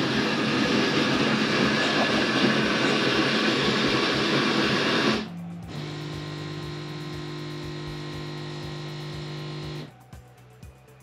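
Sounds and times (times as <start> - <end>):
coffee grinder running: 0.0 - 9.9
coffee machine humming: 0.0 - 9.9.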